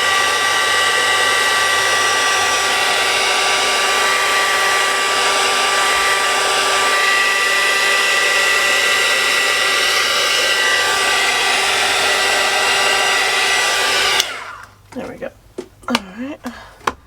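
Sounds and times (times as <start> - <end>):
heat tool blowing air: 0.0 - 14.7.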